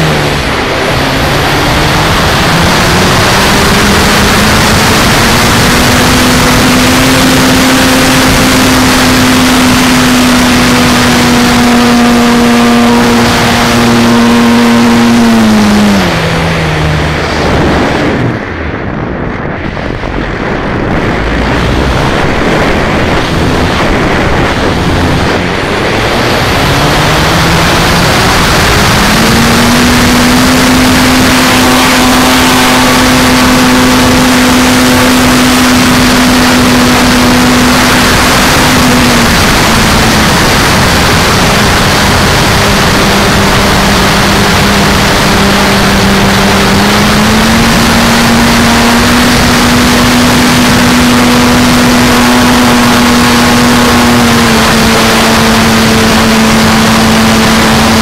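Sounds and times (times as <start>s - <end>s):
propeller drone: 0.0s - 58.0s
wind rush on microphone: 0.0s - 58.0s.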